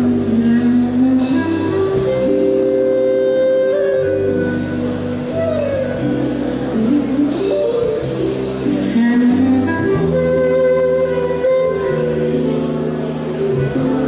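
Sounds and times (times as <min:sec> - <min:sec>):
clarinet melody: 0:00.0 - 0:14.0
drum kit with light cymbals: 0:00.0 - 0:14.0
electric keyboard: 0:00.0 - 0:14.0.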